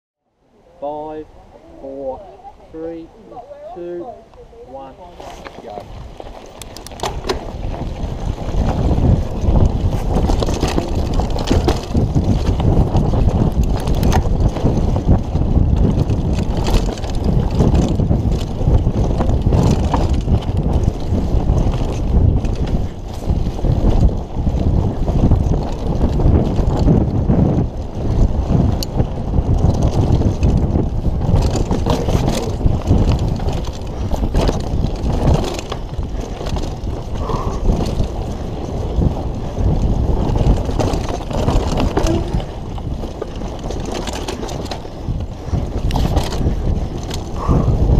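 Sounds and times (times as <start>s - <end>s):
wind on microphone: 0.6s - 47.9s
tyres rumbling over dirt: 5.1s - 47.9s
bike knocks and rattles: 5.3s - 47.9s.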